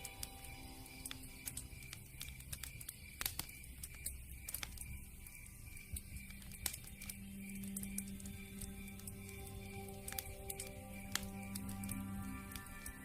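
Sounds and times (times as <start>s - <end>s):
campfire crackling: 0.0s - 13.0s
faint steady background: 0.0s - 13.0s.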